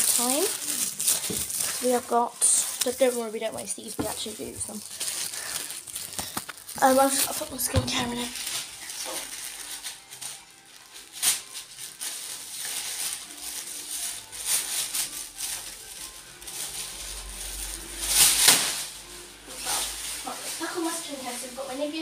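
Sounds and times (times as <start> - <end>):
plastic bag rustling: 0.0 - 22.0.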